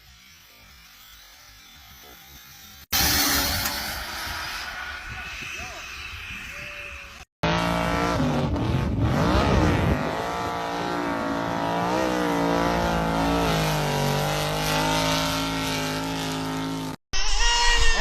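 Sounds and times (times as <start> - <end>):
rc car engine revving: 0.0 - 18.0.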